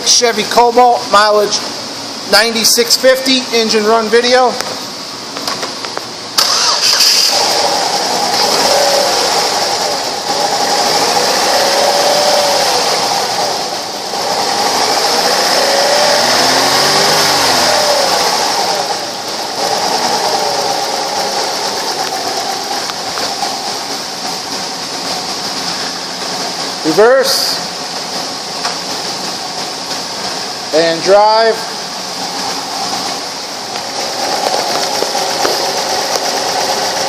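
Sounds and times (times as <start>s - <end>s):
car engine revving: 6.3s - 37.0s.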